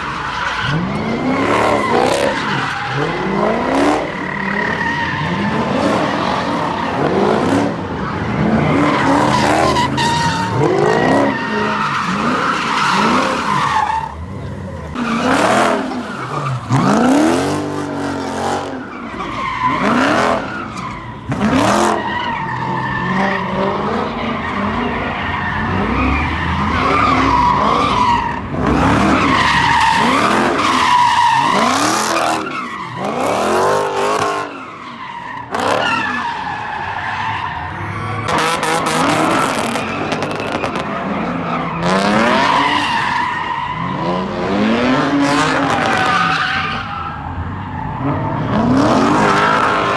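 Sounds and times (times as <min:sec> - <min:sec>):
car tyres screeching: 0:00.0 - 0:49.9.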